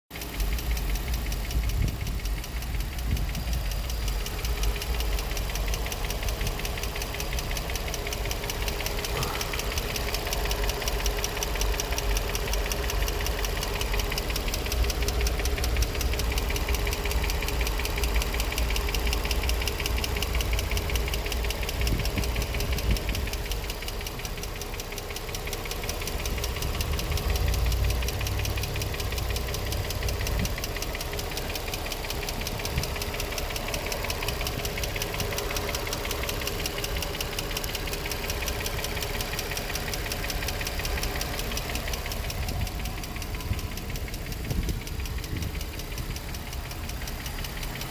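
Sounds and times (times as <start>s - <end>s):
engine rumble: 0.1s - 47.9s
fast knocking tick: 0.1s - 47.9s.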